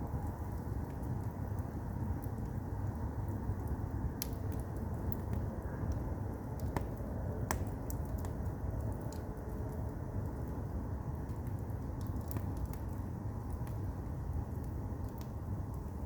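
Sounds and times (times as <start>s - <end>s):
fire crackling and popping: 0.0s - 16.0s
firewood burning rumble: 0.0s - 16.0s.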